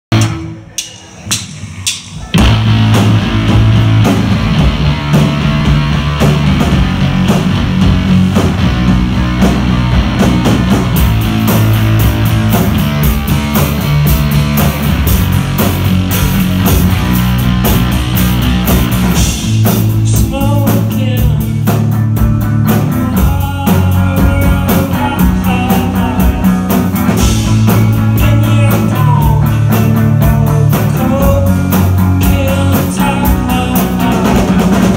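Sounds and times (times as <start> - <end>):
live rock band playing: 0.1 - 34.9.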